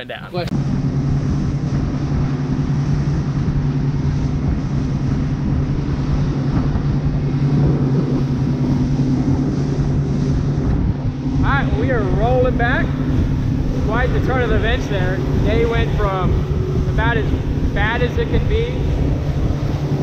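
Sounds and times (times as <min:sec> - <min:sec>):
water noise: 0:00.0 - 0:20.0
wind: 0:00.0 - 0:20.0
outboard motor droning: 0:00.5 - 0:20.0.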